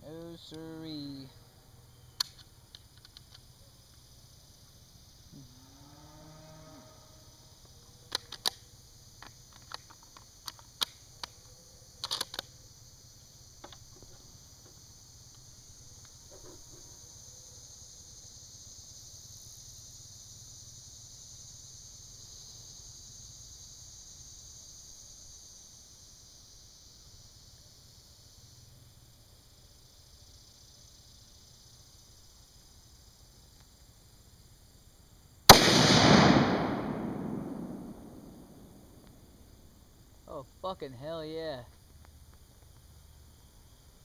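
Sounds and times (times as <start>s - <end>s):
high insect buzz: 0.0s - 44.0s.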